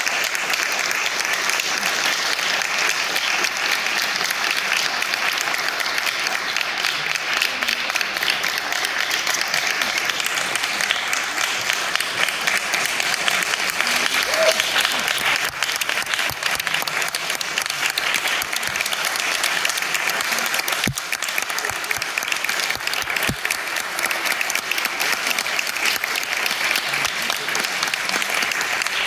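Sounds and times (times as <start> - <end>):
audience applauding: 0.0 - 29.0.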